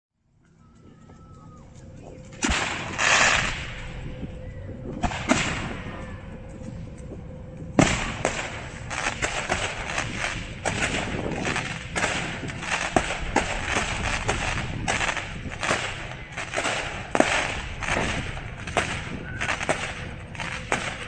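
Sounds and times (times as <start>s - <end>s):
rapid firework crackling: 1.2s - 4.4s, 5.0s - 6.9s, 7.8s - 21.0s
firework shells bursting with bangs: 2.0s - 4.4s, 5.0s - 6.7s, 7.8s - 21.0s.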